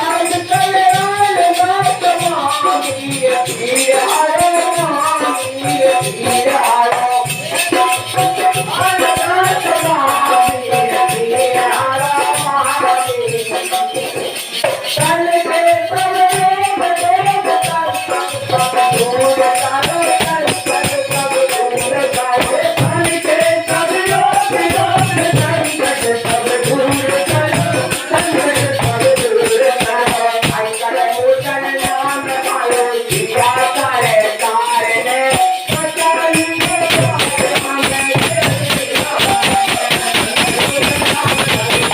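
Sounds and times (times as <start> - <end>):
rattling hand percussion: 0.0 - 41.9.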